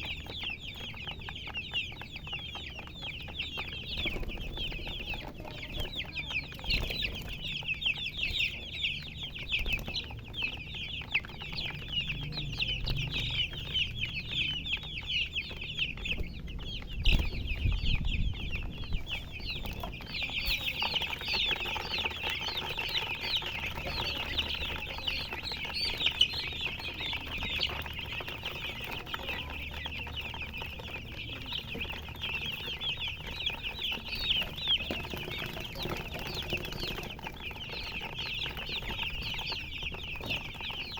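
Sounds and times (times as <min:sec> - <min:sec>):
baby chicks peeping: 0:00.0 - 0:40.9.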